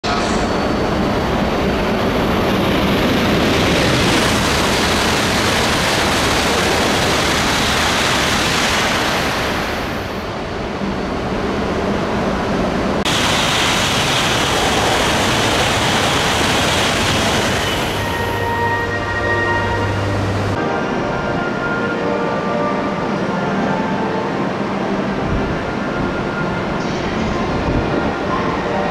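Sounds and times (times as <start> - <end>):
high-speed train roaring past: 0.0 - 28.9.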